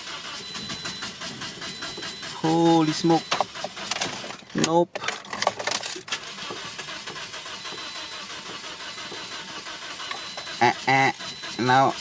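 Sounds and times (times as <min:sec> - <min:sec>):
starter motor cranking engine: 0:00.0 - 0:12.0.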